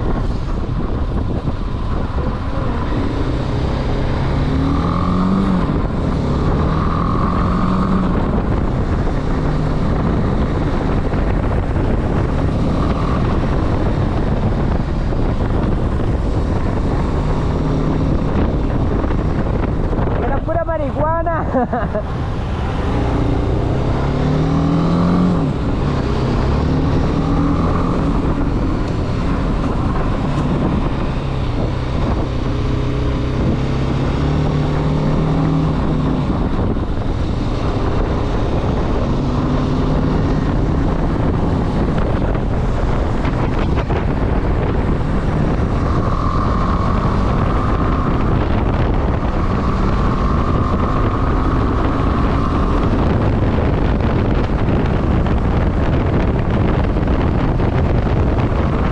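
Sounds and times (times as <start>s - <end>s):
motorcycle engine revving: 0.0s - 58.9s
wind rushing over microphone: 0.0s - 58.9s.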